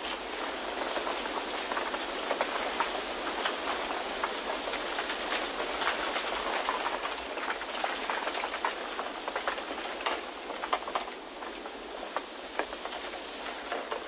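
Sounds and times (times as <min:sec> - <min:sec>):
light ticks and crackles: 0:00.0 - 0:14.0.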